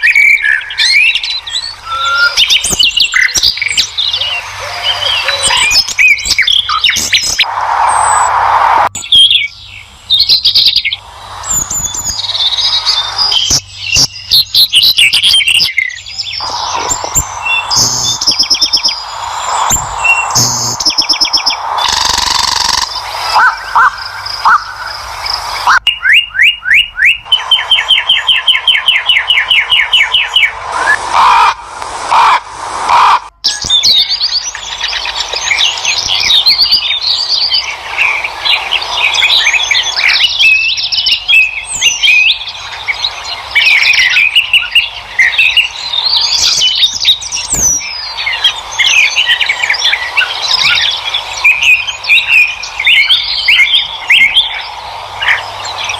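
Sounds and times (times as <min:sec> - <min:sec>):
bird trill: 0:00.0 - 0:08.2, 0:09.0 - 0:31.5, 0:33.5 - 0:55.9
songbirds chirping and singing: 0:00.0 - 0:55.9.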